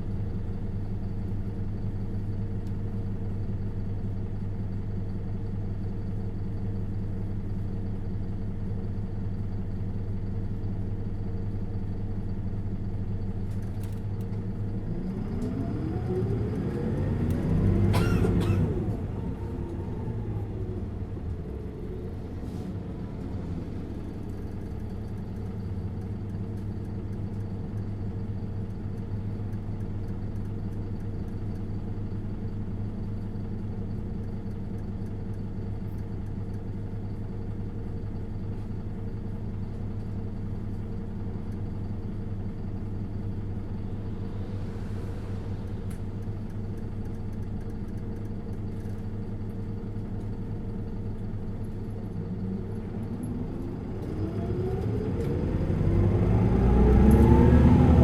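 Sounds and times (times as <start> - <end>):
bus diesel engine humming: 0.0 - 58.0.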